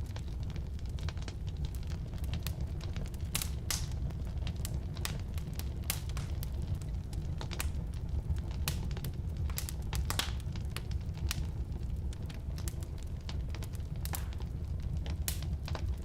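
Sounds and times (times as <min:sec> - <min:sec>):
burning wood crackling and popping: 0:00.0 - 0:16.0
flames rumbling: 0:00.0 - 0:16.0.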